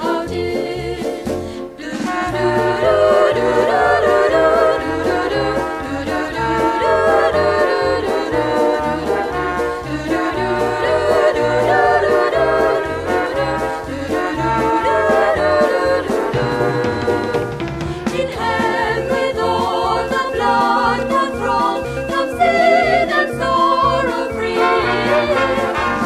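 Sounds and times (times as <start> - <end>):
vocal group singing in harmony: 0.0 - 26.0.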